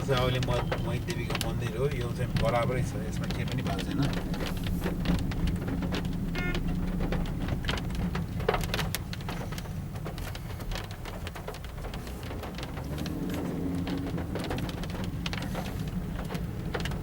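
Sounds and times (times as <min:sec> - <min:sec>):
car engine and tyre rumble: 0:00.0 - 0:17.0
raindrops ticking on car: 0:00.0 - 0:17.0.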